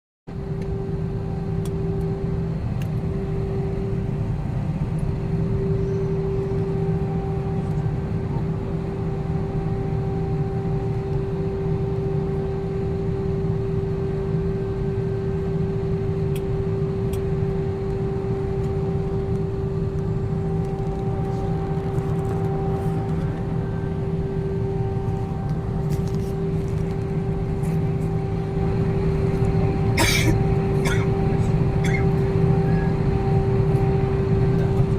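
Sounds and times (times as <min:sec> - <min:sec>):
airliner cabin rumble and air rush: 0:00.3 - 0:34.9.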